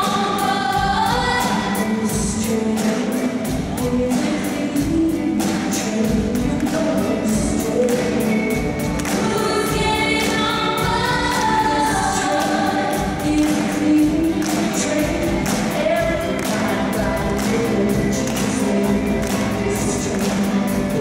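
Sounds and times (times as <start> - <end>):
backing singers: 0.0 - 21.0
big band playing: 0.0 - 21.0
steady drum beat: 0.0 - 21.0
woman singing lead: 0.0 - 21.0.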